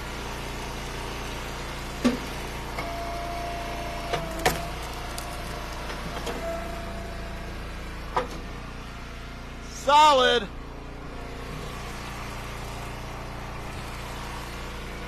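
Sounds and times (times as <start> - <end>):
wood splitter engine running: 0.0 - 15.0.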